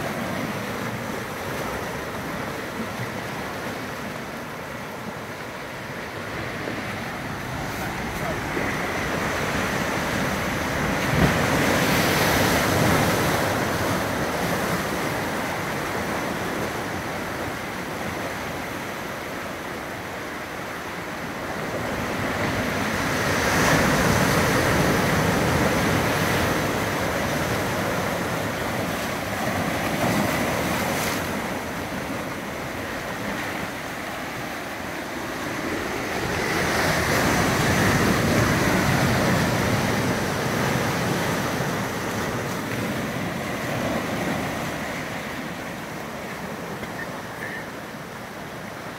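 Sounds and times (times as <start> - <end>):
ocean surf washing over rocks: 0.0 - 48.9.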